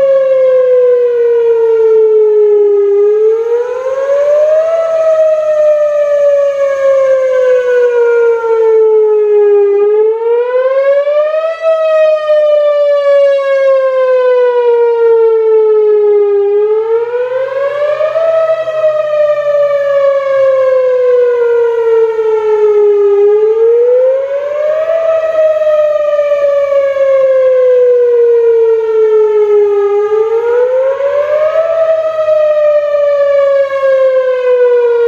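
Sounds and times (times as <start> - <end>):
rotating siren wailing: 0.0 - 35.0.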